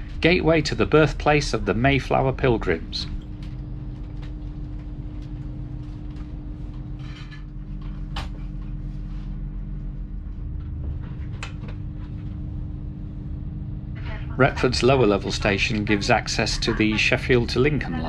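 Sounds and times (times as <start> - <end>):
train cabin hum and rumble: 0.0 - 18.0.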